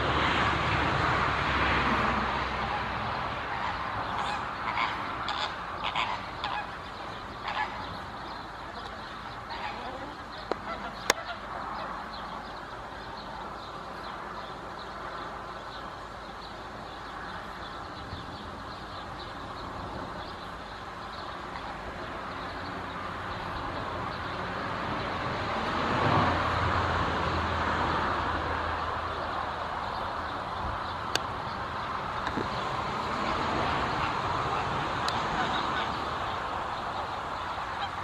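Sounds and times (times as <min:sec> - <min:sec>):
vehicle passing: 0:00.0 - 0:38.0.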